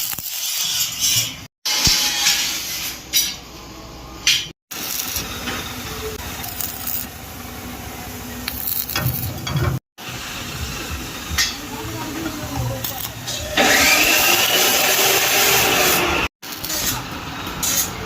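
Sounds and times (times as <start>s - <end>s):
steady hissing workshop noise: 0.0s - 18.0s.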